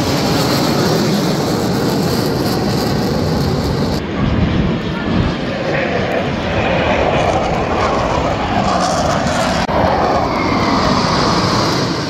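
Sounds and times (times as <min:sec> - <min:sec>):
jets roaring overhead: 0:00.0 - 0:12.0.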